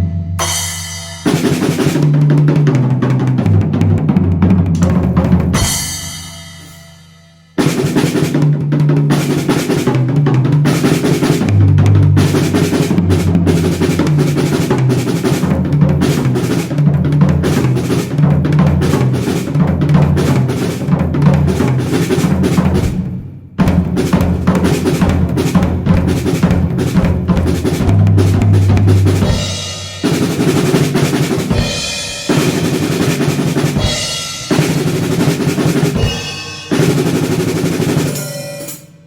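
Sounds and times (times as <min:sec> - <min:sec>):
drum kit and bass music: 0:00.0 - 0:02.8, 0:03.4 - 0:08.4, 0:09.0 - 0:38.5.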